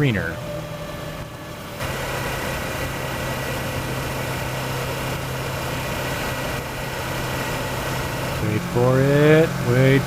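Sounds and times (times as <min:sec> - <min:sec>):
motorcycle engine humming: 0:00.0 - 0:10.0.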